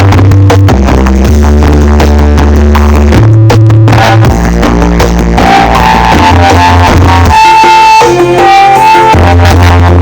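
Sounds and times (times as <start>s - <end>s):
loud music with heavy bass line: 0.0s - 10.0s.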